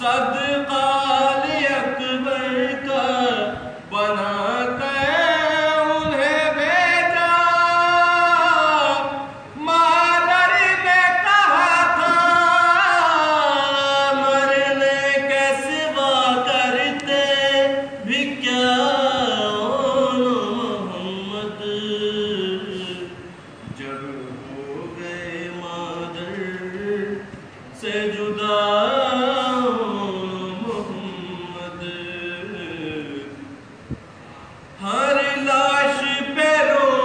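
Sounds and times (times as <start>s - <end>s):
man chanting a lament: 0.0s - 33.5s, 34.8s - 37.0s.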